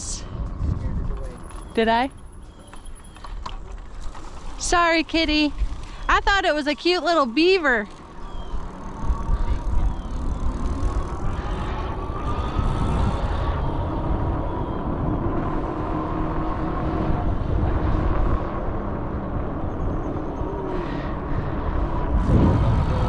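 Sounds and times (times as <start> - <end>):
wind buffeting microphone: 0.0 - 2.0, 3.1 - 23.0
electric motor whine: 4.0 - 23.0.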